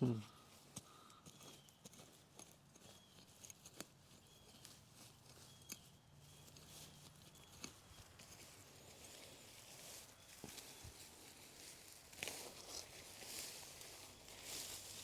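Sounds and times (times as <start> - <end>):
digging in clay soil: 0.0 - 15.0.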